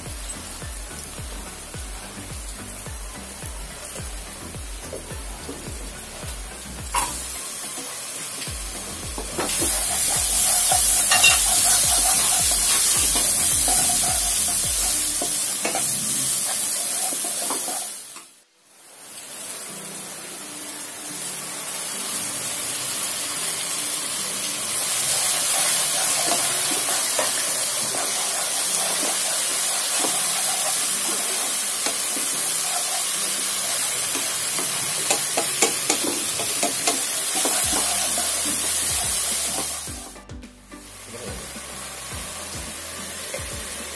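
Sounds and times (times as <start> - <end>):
onions sizzling in oil: 0.0 - 43.9.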